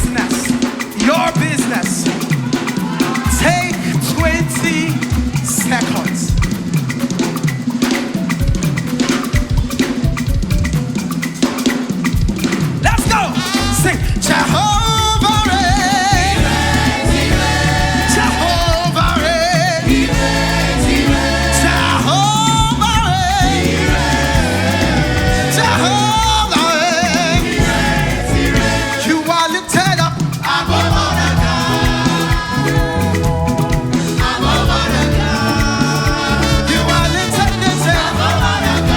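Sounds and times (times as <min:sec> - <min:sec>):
gospel singers with vibrato: 0:00.0 - 0:08.0, 0:12.6 - 0:38.9
band with drums and bass: 0:00.0 - 0:38.9.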